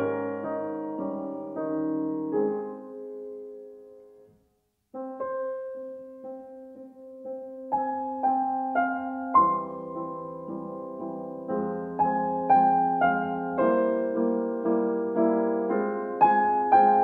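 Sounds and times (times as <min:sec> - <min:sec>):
piano music: 0:00.0 - 0:04.3, 0:04.9 - 0:17.0.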